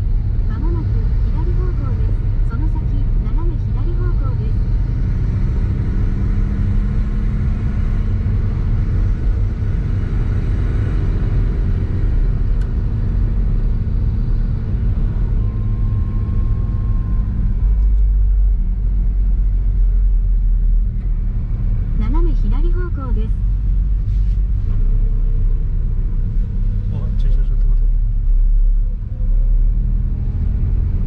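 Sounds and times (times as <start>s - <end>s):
car engine running: 0.0s - 31.0s
road rumble: 0.0s - 31.0s.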